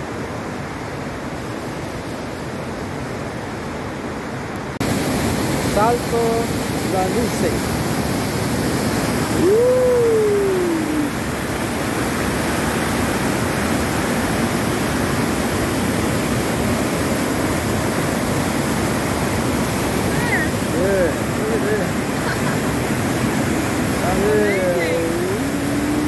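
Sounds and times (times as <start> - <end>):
waterfall rushing: 4.8 - 26.0.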